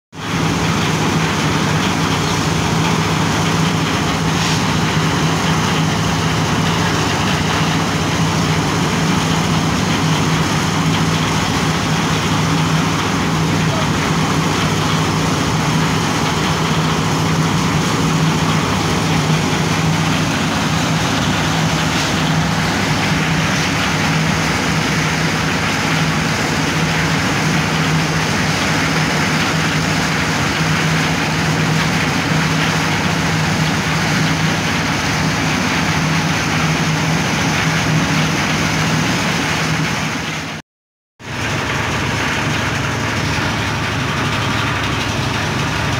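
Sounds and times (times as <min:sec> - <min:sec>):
concrete mixer droning hum: 0:00.2 - 0:40.6, 0:41.2 - 0:45.9.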